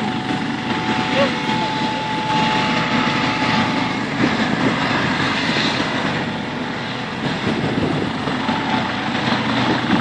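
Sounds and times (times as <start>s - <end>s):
helicopter engine and rotors: 0.0s - 10.0s.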